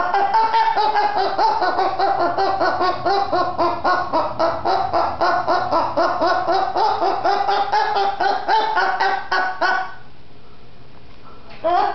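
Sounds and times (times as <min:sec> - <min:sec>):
parrot laughing call: 0:00.0 - 0:10.1, 0:11.5 - 0:11.9.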